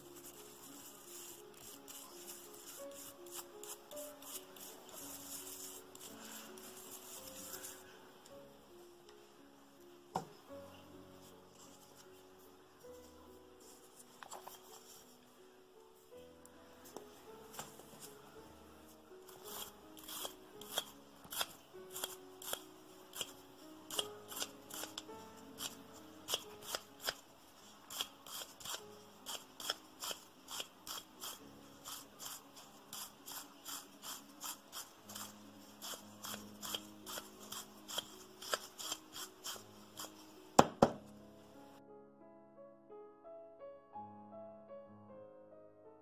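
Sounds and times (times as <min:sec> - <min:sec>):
soft piano music: 0:00.0 - 0:46.0.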